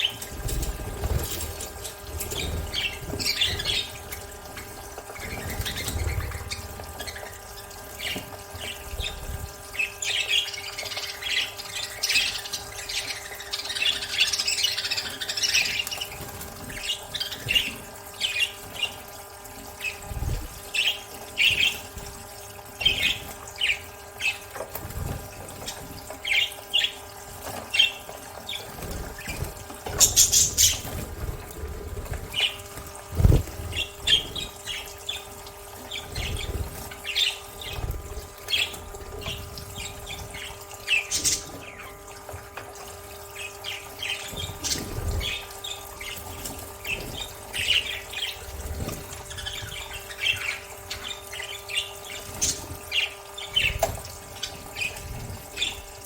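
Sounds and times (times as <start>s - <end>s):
budgerigars chirping and squawking: 0.0s - 19.1s, 19.7s - 22.1s, 22.8s - 56.0s.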